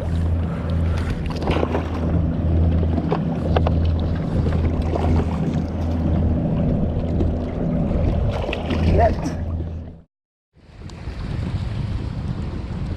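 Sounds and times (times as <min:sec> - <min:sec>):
wind rumbling on microphone: 0:00.0 - 0:10.0, 0:10.6 - 0:12.9
water against kayak hull: 0:00.0 - 0:12.9.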